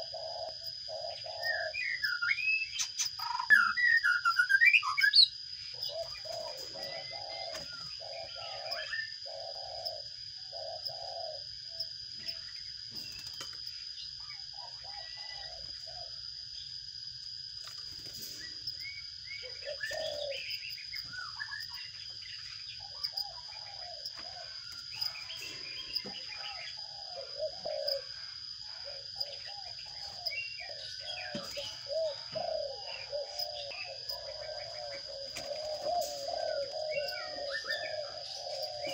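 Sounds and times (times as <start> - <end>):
birds calling: 0.0 - 16.9, 17.6 - 38.9.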